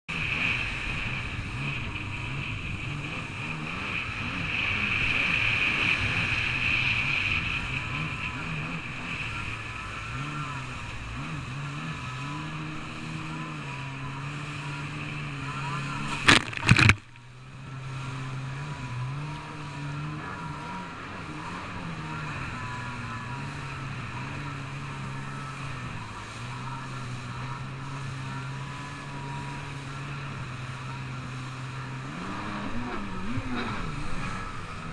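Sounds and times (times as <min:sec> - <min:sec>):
jet ski engine running: 0:00.1 - 0:34.9.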